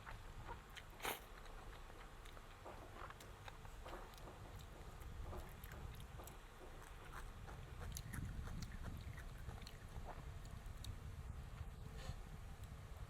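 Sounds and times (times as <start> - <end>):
chewing and biting: 0.0 - 11.0
wet mouth clicks and crackles: 0.4 - 11.0.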